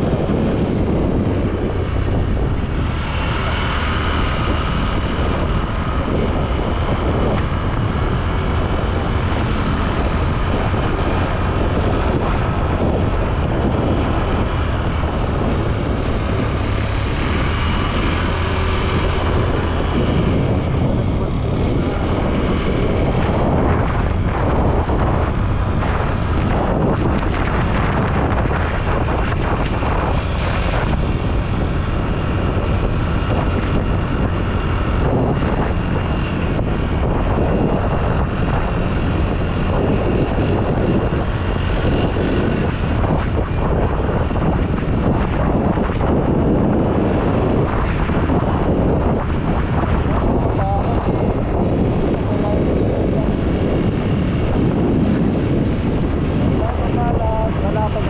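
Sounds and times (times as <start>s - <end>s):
motorcycle engine: 0.0s - 58.0s
road noise: 0.0s - 58.0s
wind rushing over microphone: 0.0s - 58.0s.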